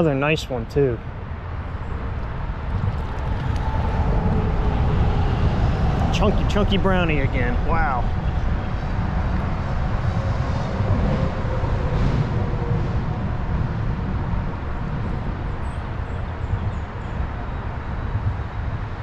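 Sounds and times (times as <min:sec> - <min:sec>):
rushing rumbling outdoor noise: 0:00.0 - 0:19.0.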